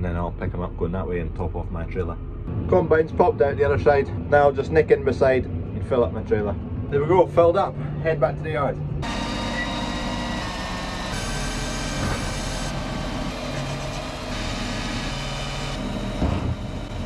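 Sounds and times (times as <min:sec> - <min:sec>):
tractor engine running: 0:02.0 - 0:17.0.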